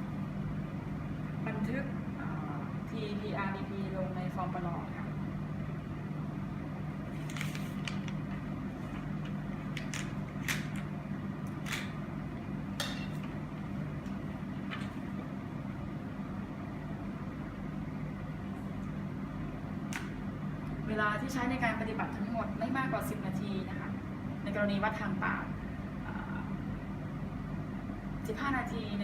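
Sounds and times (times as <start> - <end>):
room hum: 0.0 - 29.0.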